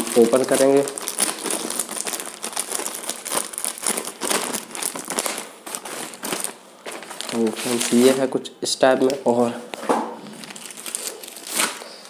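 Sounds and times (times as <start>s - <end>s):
plastic bag crinkling: 0.0s - 9.5s, 10.2s - 12.0s.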